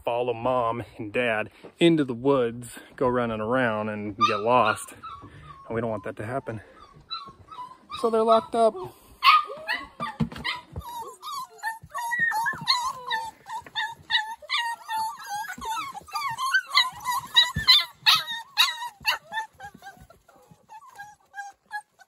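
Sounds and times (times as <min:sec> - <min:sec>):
puppies whining and yipping: 0:03.9 - 0:22.0.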